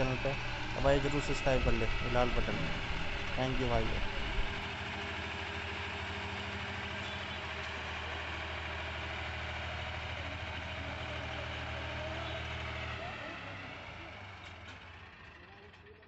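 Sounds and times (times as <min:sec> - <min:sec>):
diesel tractor engine humming: 0:00.0 - 0:16.0.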